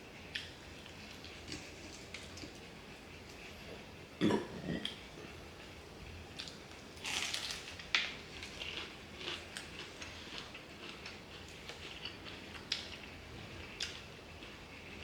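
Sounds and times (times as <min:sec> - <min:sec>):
chewing crispy chicken: 0:00.3 - 0:03.6, 0:05.6 - 0:15.0.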